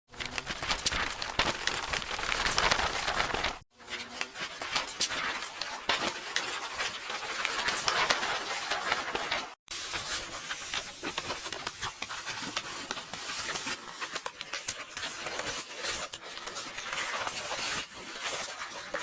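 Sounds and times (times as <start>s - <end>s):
book pages rustling: 0.1s - 19.0s.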